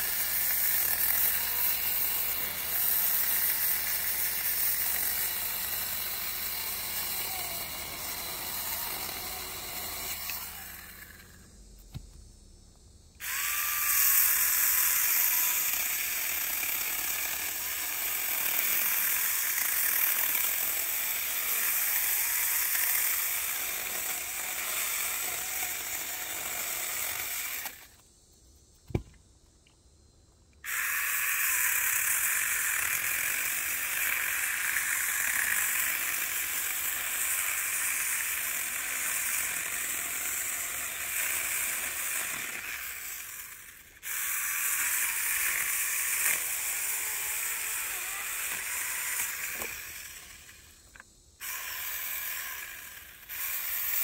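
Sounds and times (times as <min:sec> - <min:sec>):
mini chainsaw cutting branches: 0:00.0 - 0:11.5, 0:13.2 - 0:28.0, 0:30.6 - 0:54.0.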